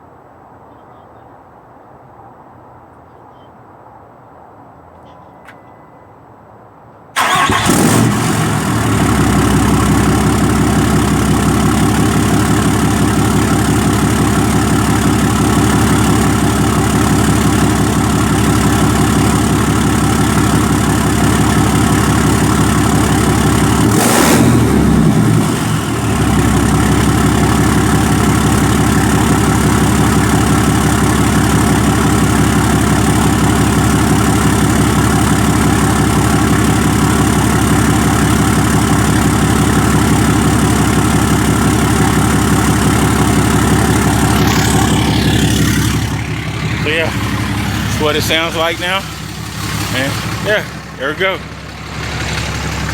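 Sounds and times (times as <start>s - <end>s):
diesel engine starting and idling: 7.1s - 52.9s
engine revving: 7.2s - 52.9s.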